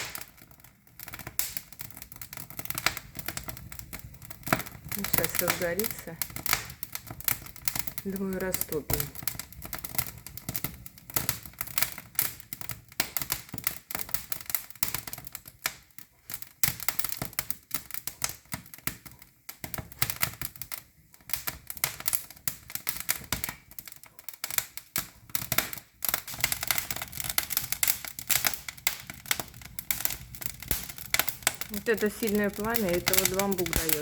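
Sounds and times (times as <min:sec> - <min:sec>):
fire crackling and popping: 0:00.0 - 0:34.0.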